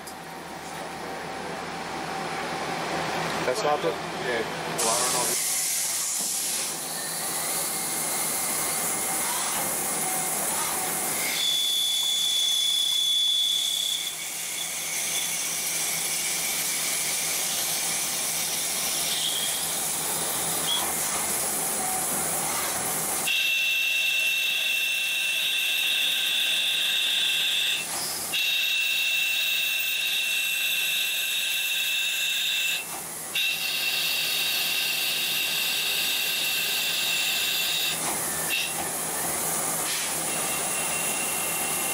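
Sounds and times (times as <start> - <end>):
high steady machine whine: 0.0 - 41.9
coolant spray and cutting hiss: 4.8 - 41.9.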